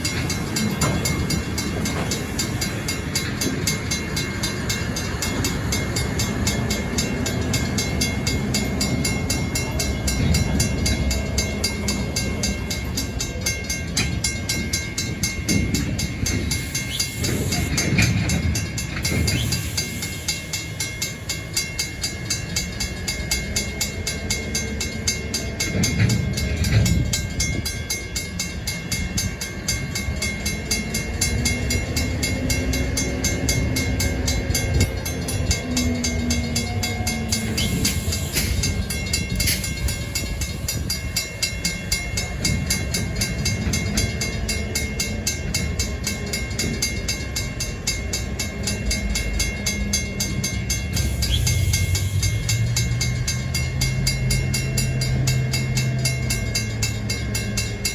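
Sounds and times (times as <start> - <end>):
diesel locomotive rumble: 0.0 - 57.9
railcars rolling: 0.0 - 57.9.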